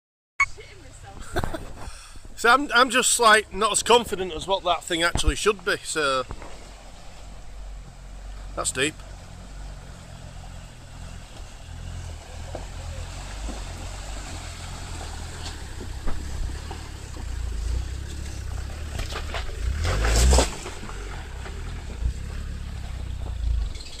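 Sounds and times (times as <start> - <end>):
low engine rumble: 0.4 - 24.0
water sloshing around wheels: 0.5 - 24.0.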